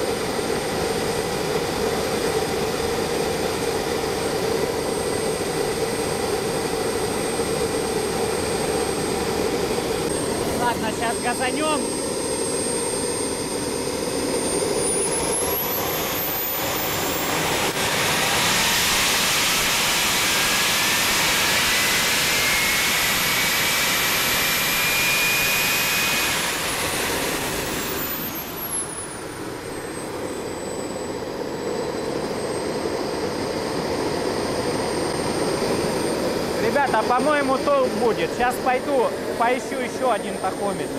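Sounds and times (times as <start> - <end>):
jet engine whine: 0.0 - 40.9
turbine wheel spinning up: 0.0 - 40.9.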